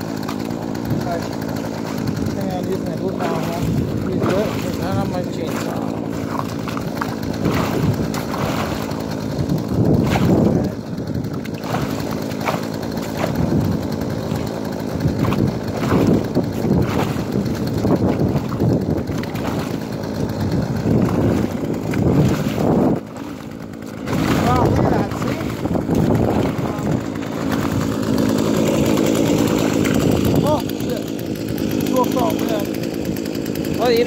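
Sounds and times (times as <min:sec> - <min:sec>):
slush and water sloshing: 0:00.0 - 0:33.1
low engine-like hum: 0:00.0 - 0:33.2.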